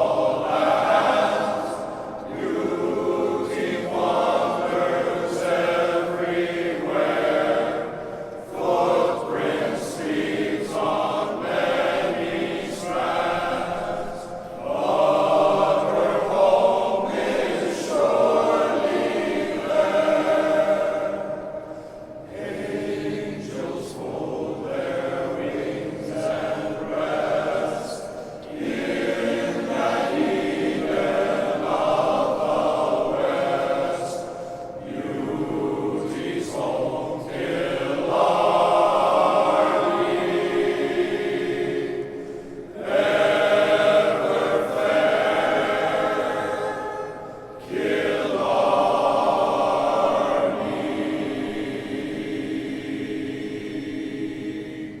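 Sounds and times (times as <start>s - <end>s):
male choir singing: 0.0s - 55.0s.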